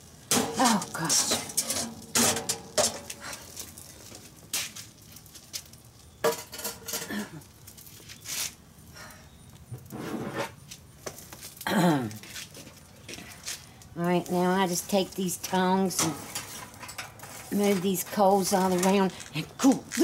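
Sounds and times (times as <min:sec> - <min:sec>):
charcoal clattering onto grill grate: 0:00.0 - 0:08.6, 0:09.7 - 0:20.0.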